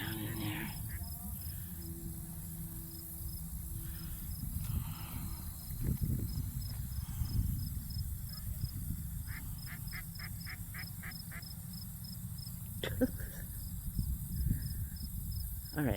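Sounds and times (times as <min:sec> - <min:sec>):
low rumble on microphone: 0:00.0 - 0:10.8, 0:12.7 - 0:15.8
insects chirping: 0:00.0 - 0:15.9.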